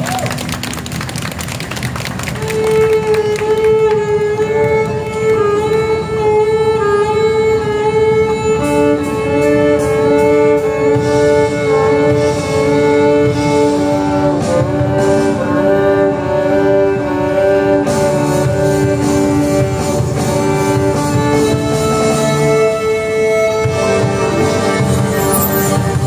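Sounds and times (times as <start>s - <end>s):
lower accompaniment: 0.0s - 26.0s
violin slow melody: 2.1s - 26.0s.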